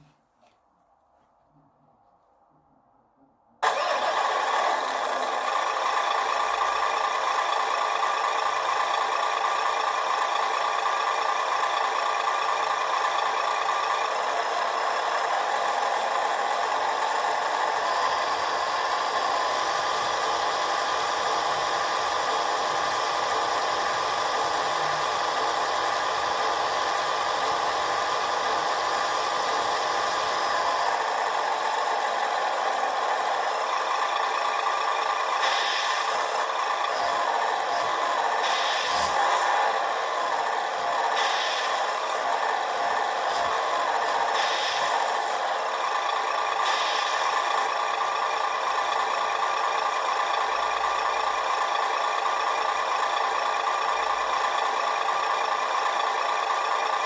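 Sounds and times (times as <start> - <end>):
simulated truck engine idling: 1.6 - 57.0.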